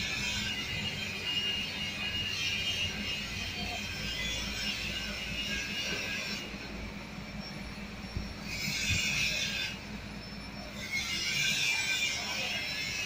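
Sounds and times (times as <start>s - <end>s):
steady low hum: 0.0s - 13.0s
welding arc hissing and whining: 0.0s - 13.0s.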